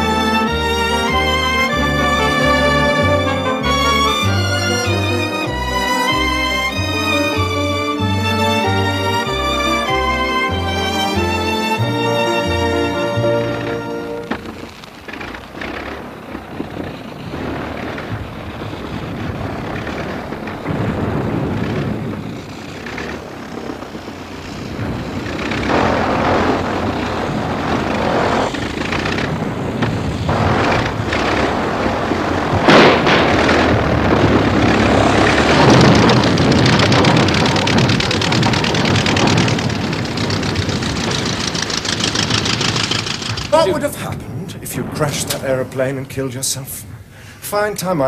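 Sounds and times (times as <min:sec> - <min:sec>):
biplane propeller engine: 0:00.0 - 0:47.7
sharp crack: 0:00.0 - 0:48.0.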